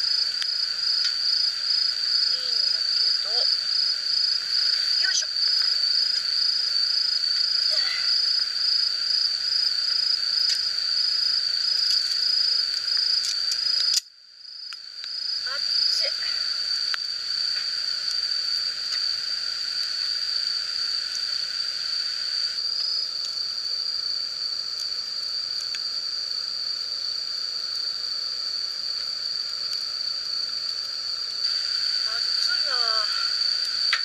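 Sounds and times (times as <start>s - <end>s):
campfire crackles: 0.0s - 34.0s
insects trilling: 0.0s - 34.0s.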